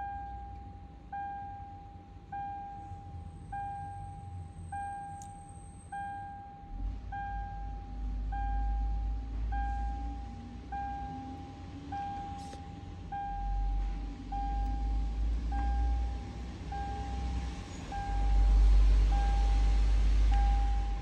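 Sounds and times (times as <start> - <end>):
car warning chime beeping: 0.0 - 21.0
low rumble: 2.4 - 21.0.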